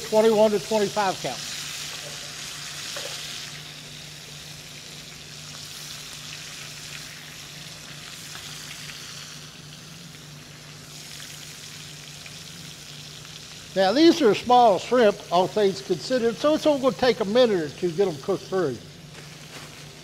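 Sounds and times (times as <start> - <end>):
shrimp sizzling in a skillet: 0.0 - 18.4.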